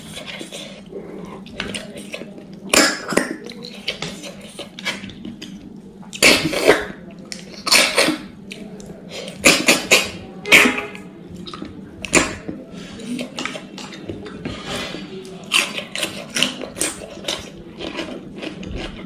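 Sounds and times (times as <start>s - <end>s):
mouth and chewing noises: 0.0s - 19.0s.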